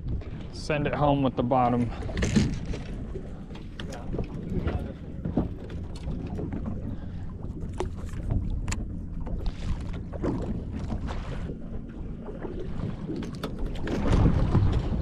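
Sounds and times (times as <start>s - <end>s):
water moving around hull: 0.0s - 15.0s
wind buffeting microphone: 0.0s - 15.0s.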